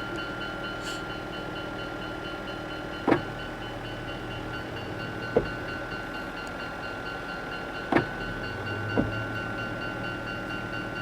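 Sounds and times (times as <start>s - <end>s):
continuous rumble: 0.0s - 11.0s.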